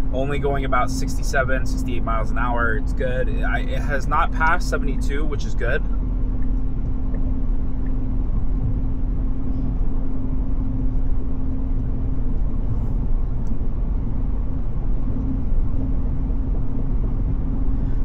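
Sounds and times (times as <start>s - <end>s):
low road rumble: 0.0s - 18.0s
steady low hum: 0.0s - 18.0s.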